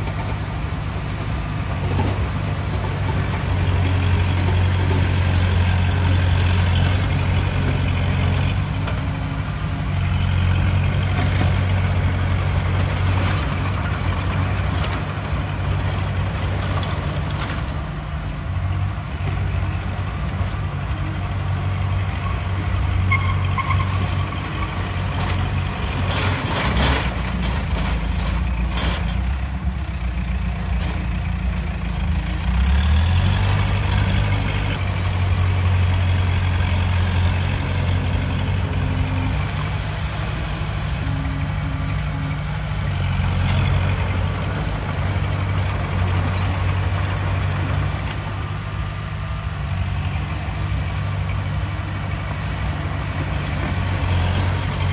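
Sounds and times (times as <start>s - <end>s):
heavy diesel machinery engine hum: 0.0s - 54.9s.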